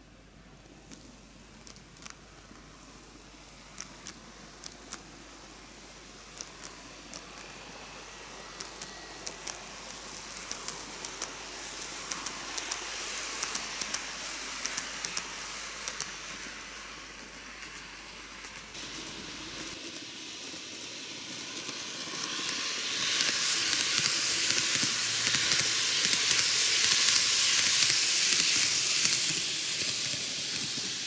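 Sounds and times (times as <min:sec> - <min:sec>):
model train whirring: 0:00.0 - 0:31.0.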